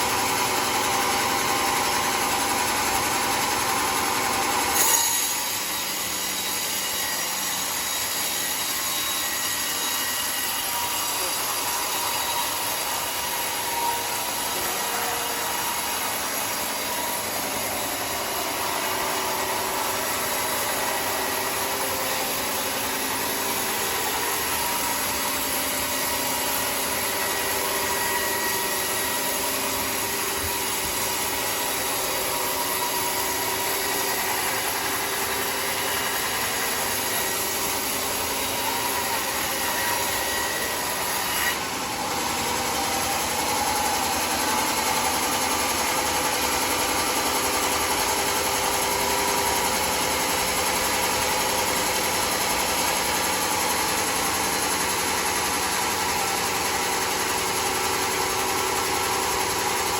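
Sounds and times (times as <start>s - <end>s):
sawmill saw running: 0.0s - 59.9s.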